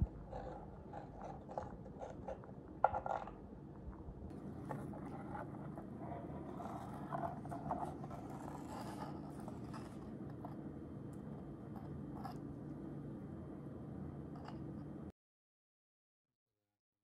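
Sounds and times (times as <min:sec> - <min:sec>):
low hum: 0:00.0 - 0:15.1.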